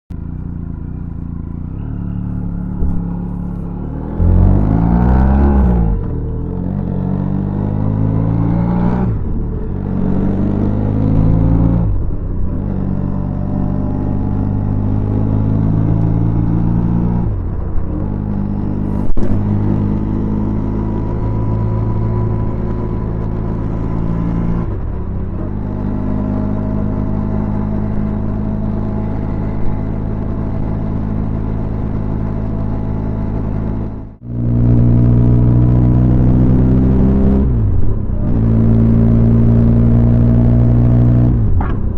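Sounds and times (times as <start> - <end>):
motorcycle engine idling and revving: 0.1 - 41.9.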